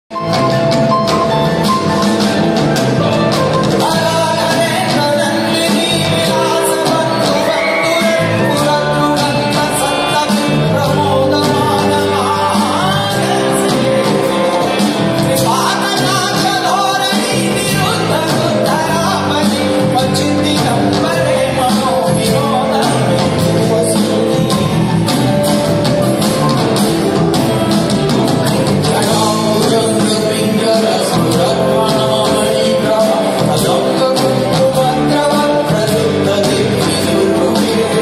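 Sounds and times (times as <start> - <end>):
live band with male singer: 0.1 - 38.0.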